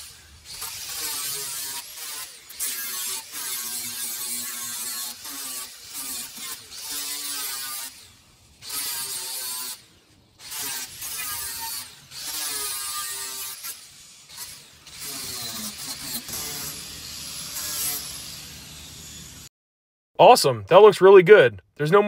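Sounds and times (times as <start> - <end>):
power grinder grinding metal: 0.0 - 19.5.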